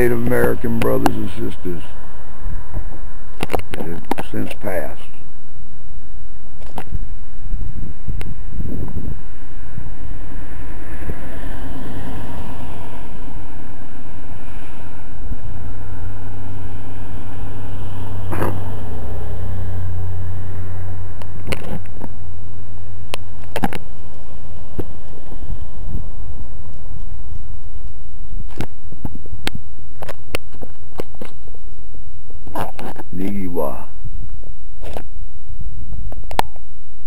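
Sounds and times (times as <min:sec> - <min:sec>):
low hum: 0:00.0 - 0:37.0
wind rumbling on microphone: 0:00.0 - 0:37.0.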